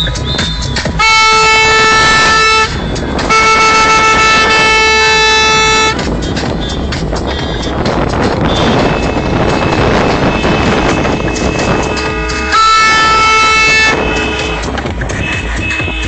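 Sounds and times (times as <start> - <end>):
car horn honking: 0.0 - 6.2, 8.4 - 16.0
road and wind noise: 0.0 - 16.0.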